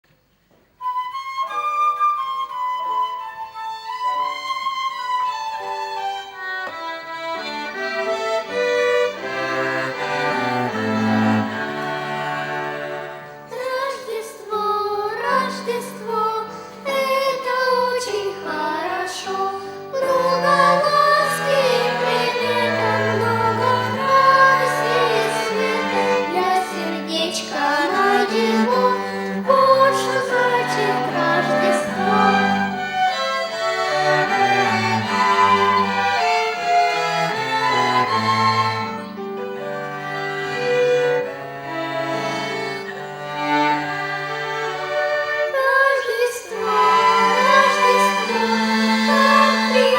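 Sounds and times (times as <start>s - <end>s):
violin ensemble playing: 0.8s - 49.9s.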